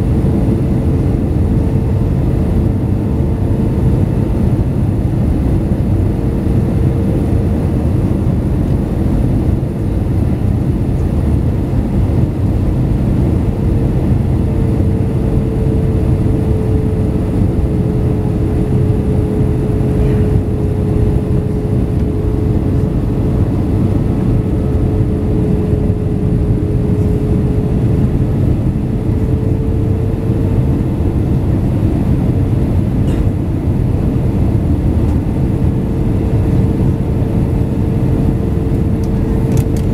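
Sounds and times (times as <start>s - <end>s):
constant hum: 0.0s - 39.9s
jet airliner rumble: 0.0s - 39.9s.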